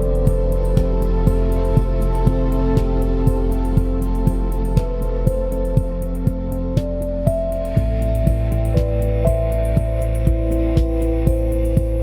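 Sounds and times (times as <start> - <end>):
soft calm music: 0.0 - 12.0
steady low hum: 0.0 - 12.0.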